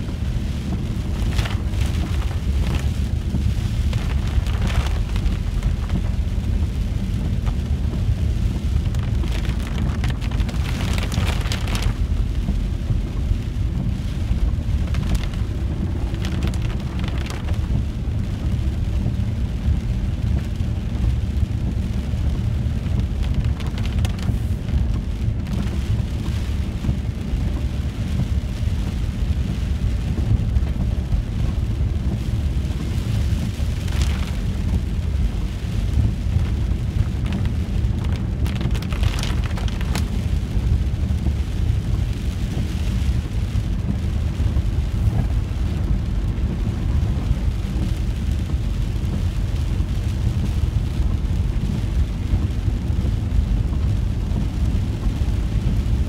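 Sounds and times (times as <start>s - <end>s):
engine and road rumble: 0.0s - 56.0s
rain on windscreen: 0.0s - 56.0s
tyres hissing on wet road: 0.0s - 56.0s.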